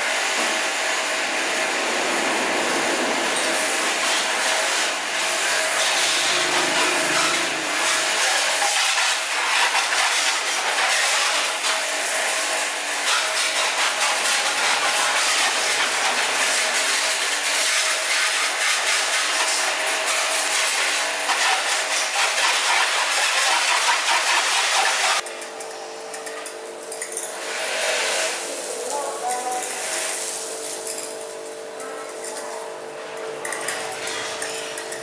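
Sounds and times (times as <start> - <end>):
high-pressure water spray hissing: 0.0 - 25.2, 27.3 - 31.5.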